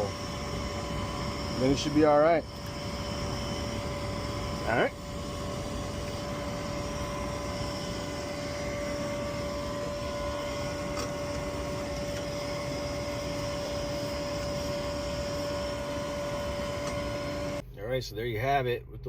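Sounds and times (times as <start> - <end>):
gas furnace humming: 0.0 - 18.4.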